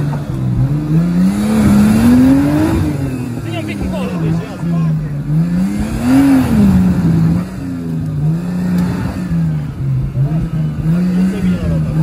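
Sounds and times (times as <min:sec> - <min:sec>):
engine revving unevenly: 0:00.0 - 0:12.0.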